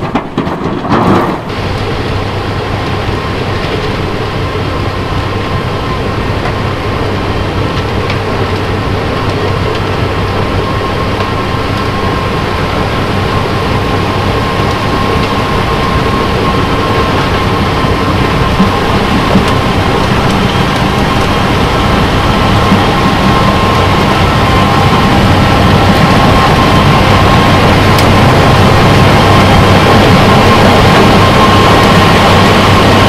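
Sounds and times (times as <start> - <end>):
diesel engines droning: 0.0 - 33.0
snowblower running: 0.0 - 33.0
steady high whine: 0.0 - 33.0.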